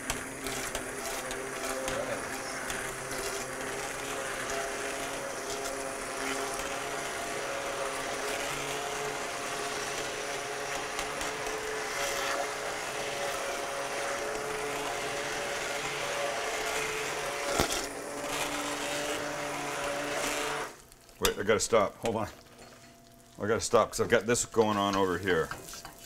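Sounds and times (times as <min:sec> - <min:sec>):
immersion blender motor whine: 0:00.0 - 0:20.9.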